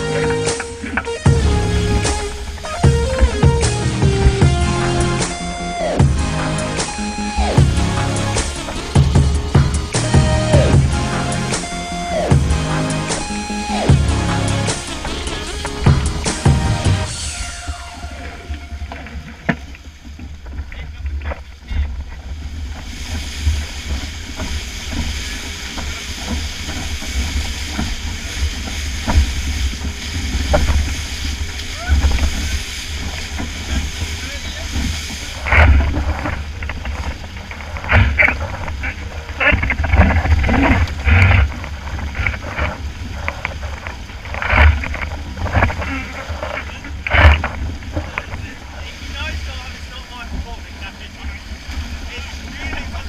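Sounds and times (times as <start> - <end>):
water rushing past hull: 0.0 - 53.0
wind buffeting microphone: 0.0 - 53.0.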